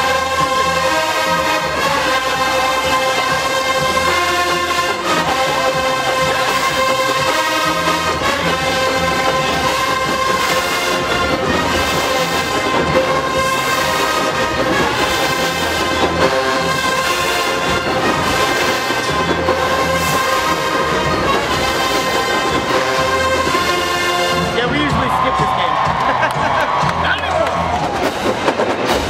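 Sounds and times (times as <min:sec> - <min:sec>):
marching band brass playing: 0:00.0 - 0:29.0.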